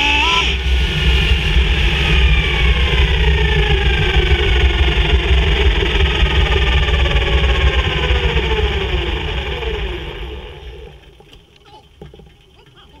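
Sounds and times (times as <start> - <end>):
falling pitched whine: 0.0 - 11.6
racing car engine rumble: 0.0 - 13.0.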